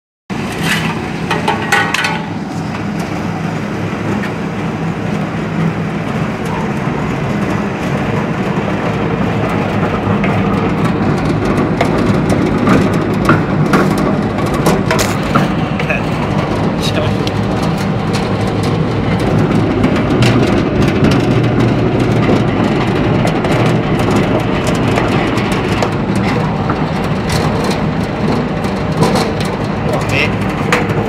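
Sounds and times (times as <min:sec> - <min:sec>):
machine droning: 0:00.3 - 0:31.0.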